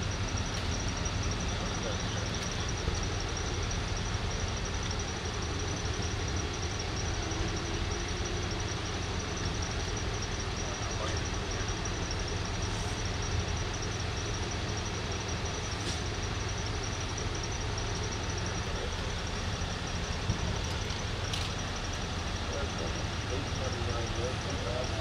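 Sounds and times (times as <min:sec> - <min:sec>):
engines idling: 0:00.0 - 0:25.0.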